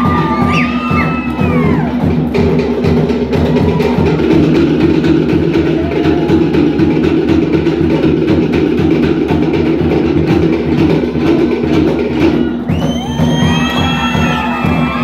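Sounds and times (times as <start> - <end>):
deep drum beats: 0.0 - 15.0.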